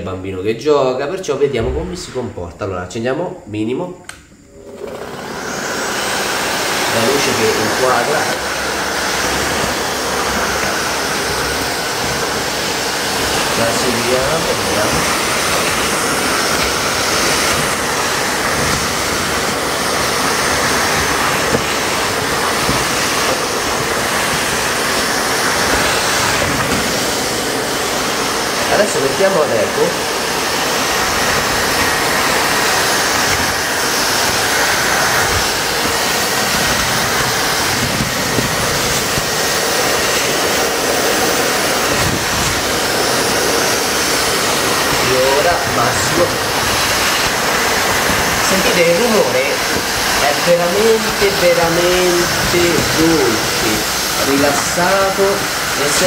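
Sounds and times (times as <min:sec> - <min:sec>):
stick vacuum running: 0:03.5 - 0:56.0.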